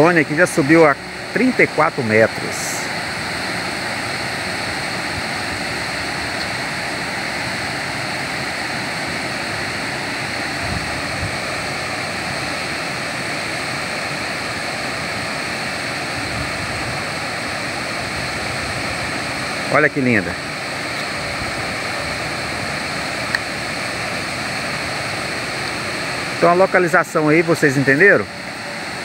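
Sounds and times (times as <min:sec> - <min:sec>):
faint high whine: 0:00.0 - 0:29.0
waterfall rushing: 0:00.0 - 0:29.0.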